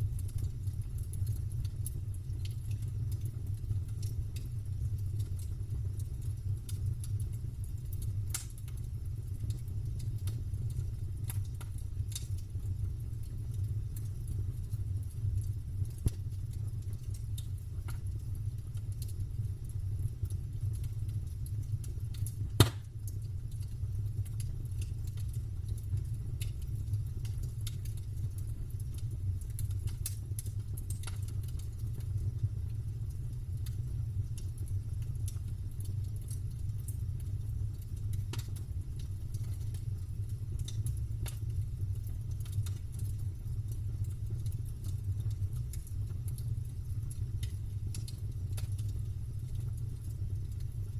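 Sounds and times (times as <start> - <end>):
campfire crackling: 0.0 - 50.9
steady low rumble: 0.0 - 50.9.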